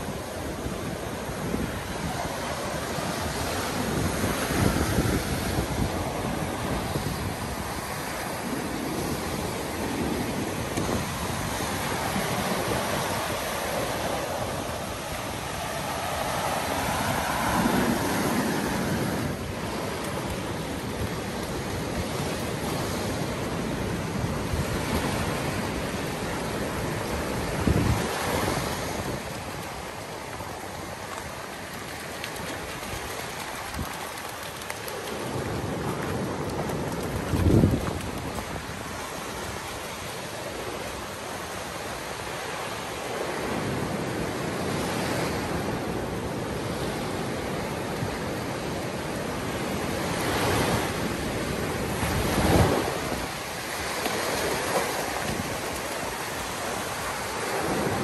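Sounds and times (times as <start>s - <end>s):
waves breaking on shore: 0.0s - 58.0s.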